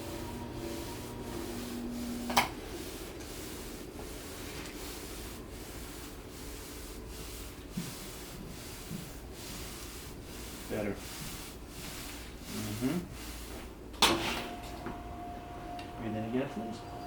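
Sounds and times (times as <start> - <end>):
soft rubbing: 0.0 - 17.0
steady hum: 0.0 - 17.0.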